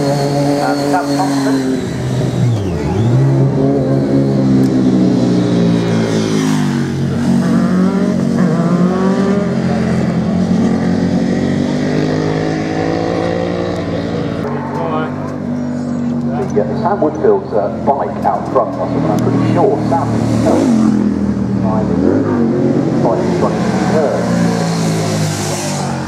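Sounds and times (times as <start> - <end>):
motorcycles accelerating past: 0.0 - 26.0.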